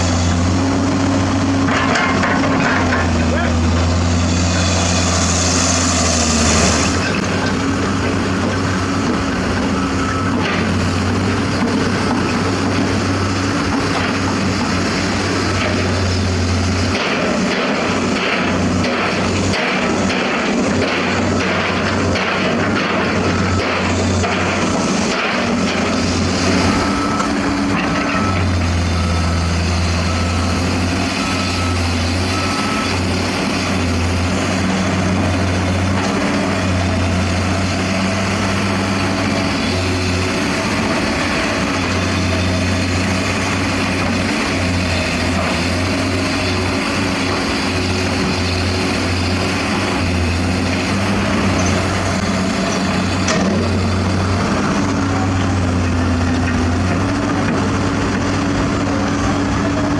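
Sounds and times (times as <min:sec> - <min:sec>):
diesel construction machinery running: 0:00.0 - 0:59.9
reversing alarm beeping: 0:01.6 - 0:57.4.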